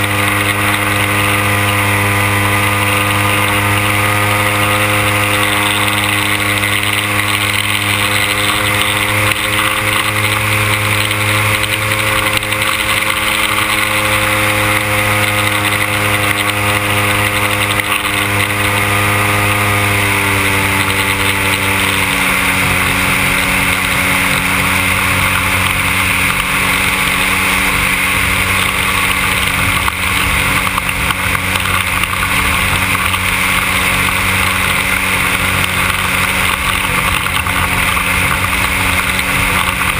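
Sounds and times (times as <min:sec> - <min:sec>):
model plane engine running: 0:00.0 - 0:39.9
propeller hiss: 0:00.0 - 0:39.9.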